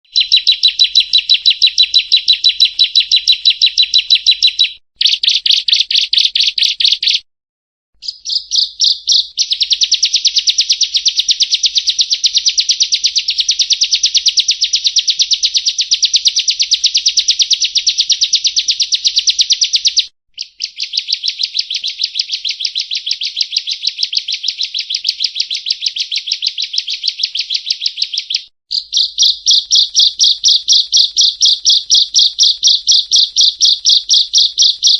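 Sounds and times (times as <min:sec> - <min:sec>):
bird singing rapid high chirps: 0:00.0 - 0:07.2, 0:08.0 - 0:34.9.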